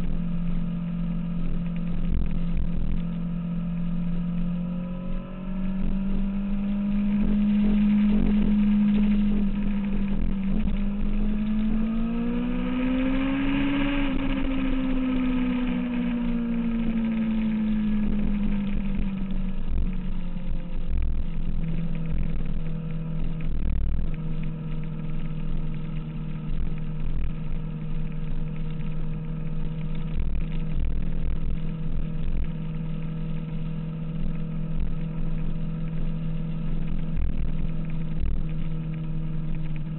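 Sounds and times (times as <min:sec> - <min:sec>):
low rumble with thumps: 0:00.0 - 0:39.9
motorcycle engine running: 0:00.0 - 0:39.9.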